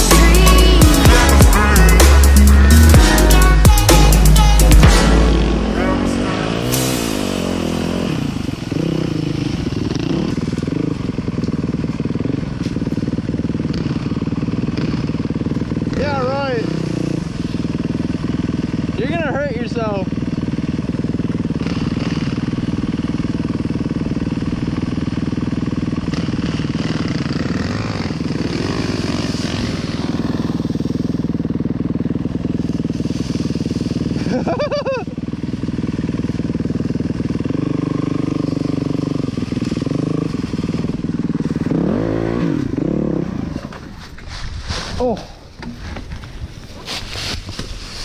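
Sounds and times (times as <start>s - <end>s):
dirt bike engine revving: 0.0s - 44.1s.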